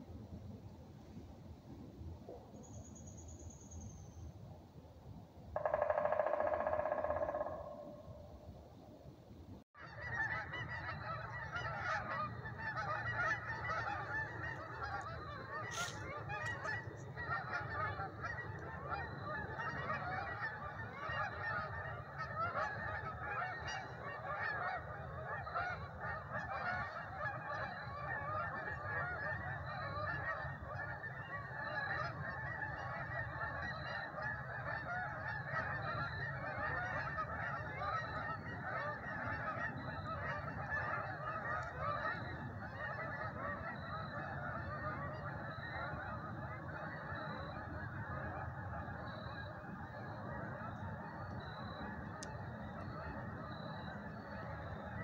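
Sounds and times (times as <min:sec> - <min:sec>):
flock of geese honking: 0:05.6 - 0:08.2, 0:09.8 - 0:55.0.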